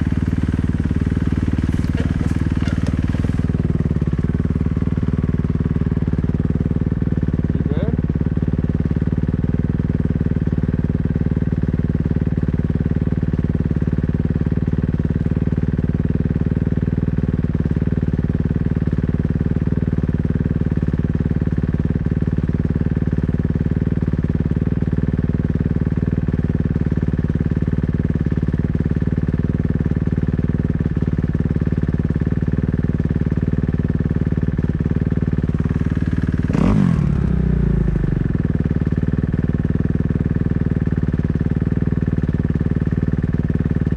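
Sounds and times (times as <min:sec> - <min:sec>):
dirt bike engine idling: 0:00.0 - 0:43.9.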